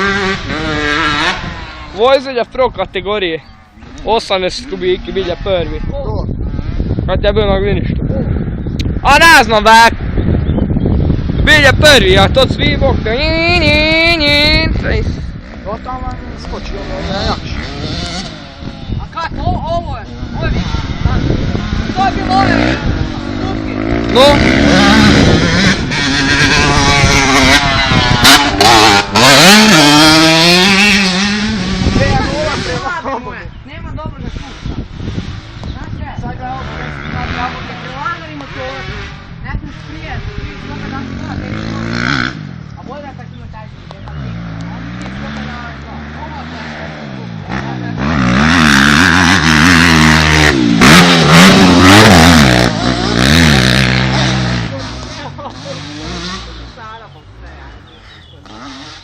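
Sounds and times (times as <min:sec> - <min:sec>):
motorcycle engine revving: 0:00.0 - 0:33.2, 0:34.1 - 0:59.0.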